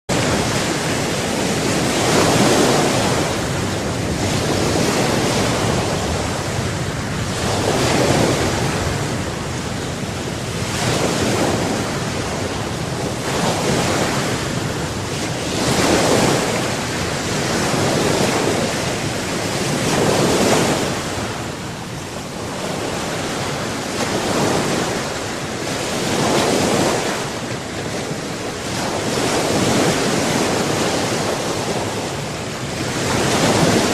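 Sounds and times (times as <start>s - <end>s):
sea waves breaking: 0.1s - 33.9s
wind on the microphone: 0.1s - 33.9s.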